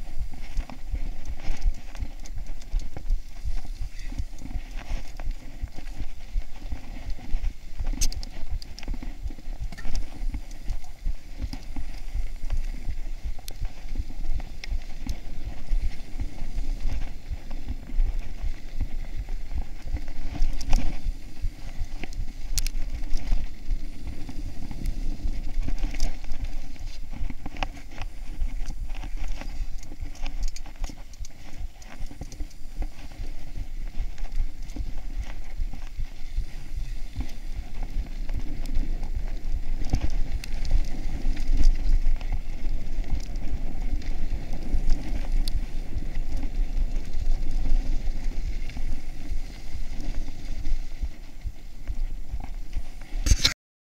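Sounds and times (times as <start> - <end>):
bike rattling over bumps: 0.0 - 53.5
wind rumble on microphone: 0.0 - 53.5.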